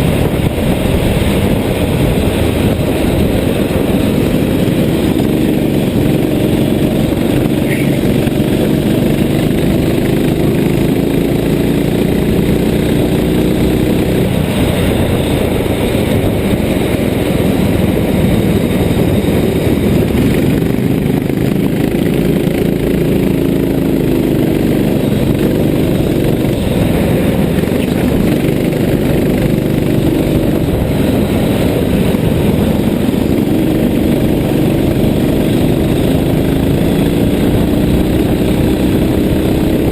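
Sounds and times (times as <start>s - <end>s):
constant rushing noise: 0.0s - 39.9s
vehicle engine running: 0.0s - 39.9s.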